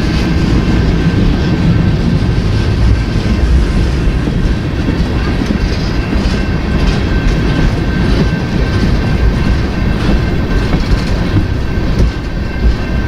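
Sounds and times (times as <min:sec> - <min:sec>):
freight train rumbling: 0:00.0 - 0:13.0
wheels clattering over rail joints: 0:00.0 - 0:13.0.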